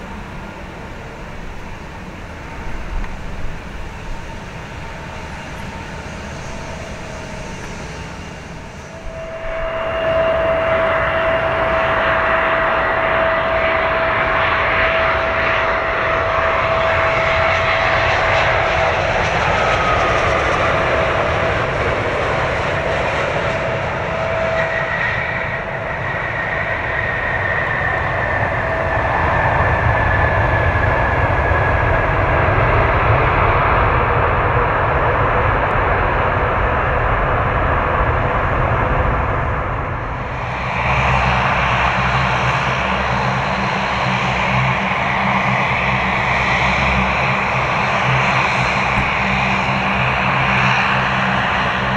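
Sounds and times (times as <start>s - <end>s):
jet engines with high whine: 0.0s - 51.9s.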